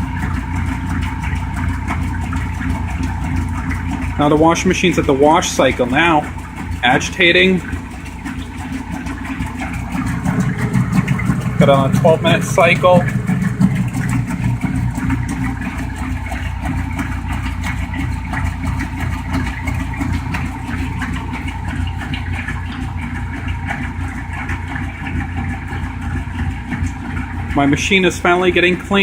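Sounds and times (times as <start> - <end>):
washing machine agitating: 0.0 - 29.0.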